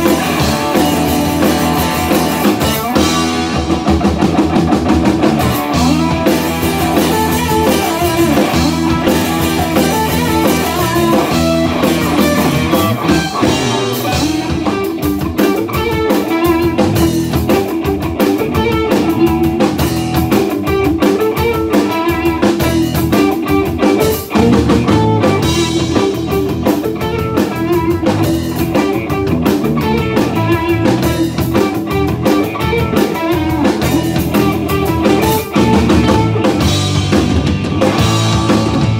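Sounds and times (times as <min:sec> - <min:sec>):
drum kit: 0:00.0 - 0:38.9
electric bass: 0:00.0 - 0:38.9
electric guitars: 0:00.0 - 0:38.9.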